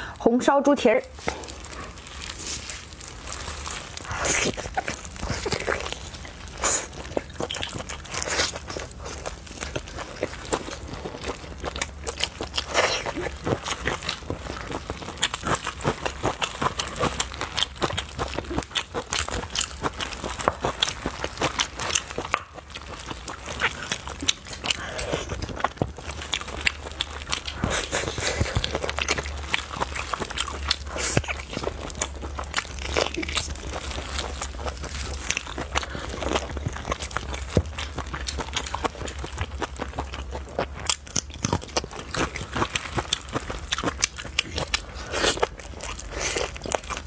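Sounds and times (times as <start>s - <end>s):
wet chewing and mouth smacks: 1.1s - 47.0s.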